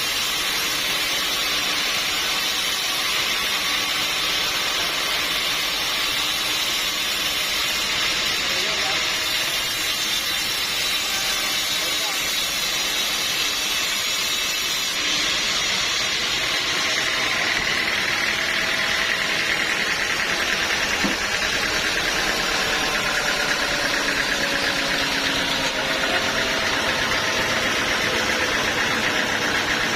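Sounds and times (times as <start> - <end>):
sawmill machinery running: 0.0 - 29.9.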